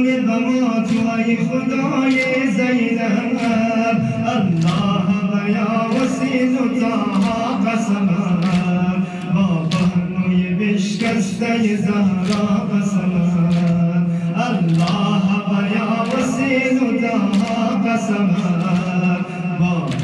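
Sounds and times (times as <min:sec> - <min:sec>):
man chanting into a microphone: 0:00.0 - 0:20.0.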